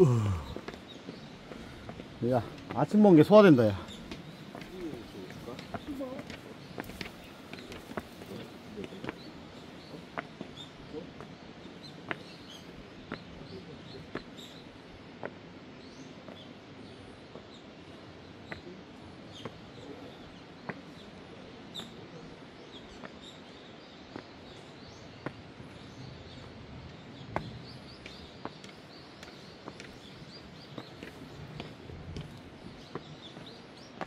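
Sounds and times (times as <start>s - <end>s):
footsteps on a path: 0.0s - 16.5s, 22.7s - 34.0s
small birds chirping: 0.0s - 34.0s.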